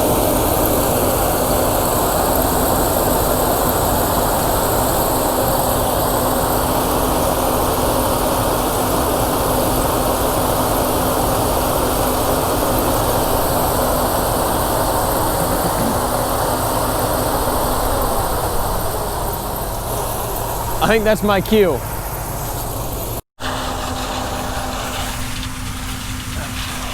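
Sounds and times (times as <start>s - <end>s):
combine harvester running: 0.0s - 26.9s.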